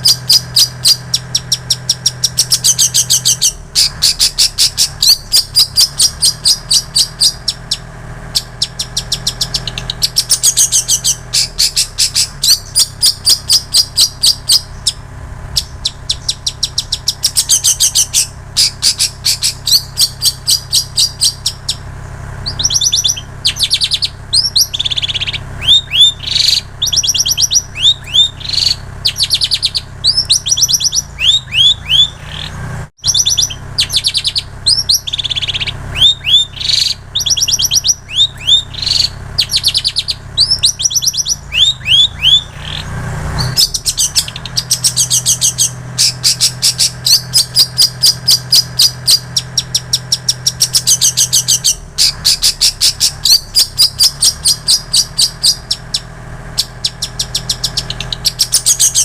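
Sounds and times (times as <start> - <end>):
high chattering bird notes: 0.0 - 59.0
low steady hum: 0.0 - 59.0
shrike singing: 0.0 - 59.0.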